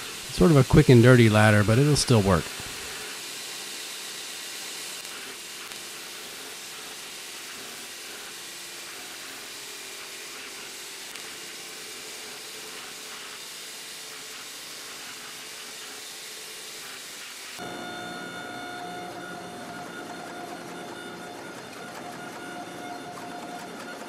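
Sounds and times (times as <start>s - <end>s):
belt grinder grinding steel: 0.0s - 24.0s.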